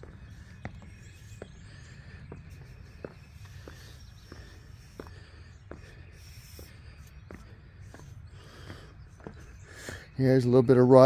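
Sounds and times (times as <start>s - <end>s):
footsteps on wooden trestle deck: 0.0s - 11.0s.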